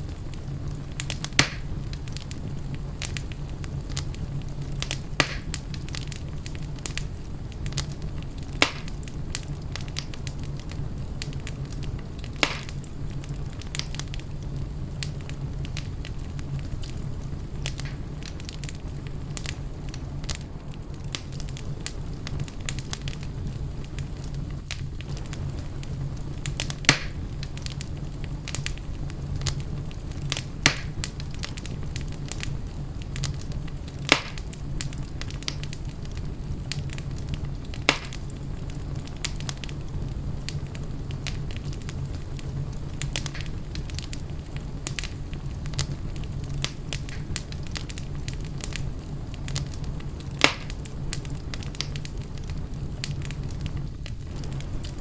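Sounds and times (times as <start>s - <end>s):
fire popping: 0.0s - 55.0s
low fire rumble: 0.0s - 55.0s
wood fire crackling: 0.0s - 55.0s.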